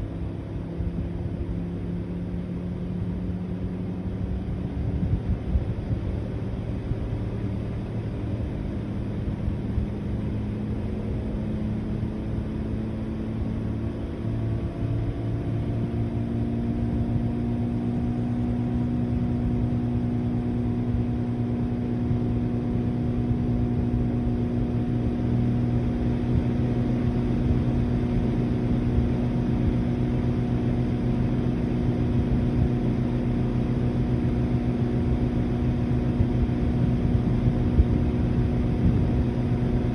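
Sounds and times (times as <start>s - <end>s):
air conditioner compressor and fan hum: 0.0s - 39.9s.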